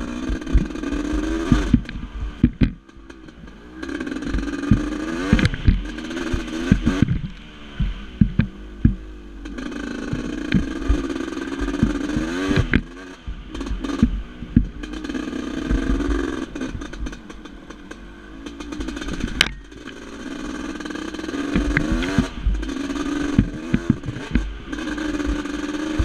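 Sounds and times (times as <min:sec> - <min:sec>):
engine knocks and clatter: 0:00.0 - 0:26.0
sharp crack: 0:00.0 - 0:26.0
two-stroke engine revving: 0:00.0 - 0:26.0.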